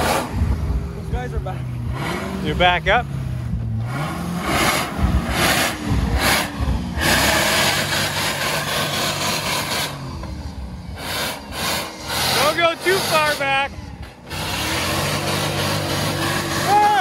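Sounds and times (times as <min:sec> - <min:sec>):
engine revving through loud exhaust: 0:00.0 - 0:17.0.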